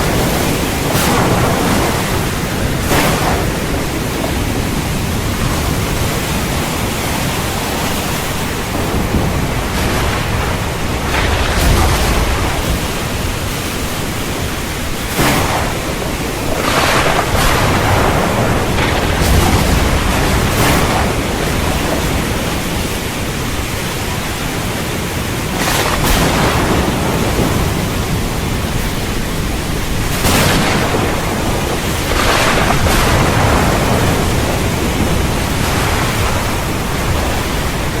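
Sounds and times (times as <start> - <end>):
heavy rain: 0.0 - 38.0
thunder cracking and rumbling: 0.0 - 38.0.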